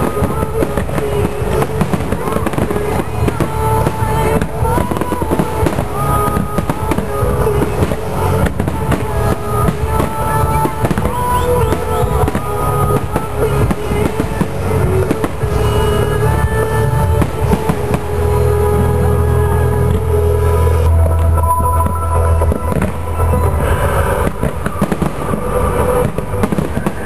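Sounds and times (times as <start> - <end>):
fireworks bangs and crackles: 0.0 - 27.0
loud music: 0.0 - 27.0.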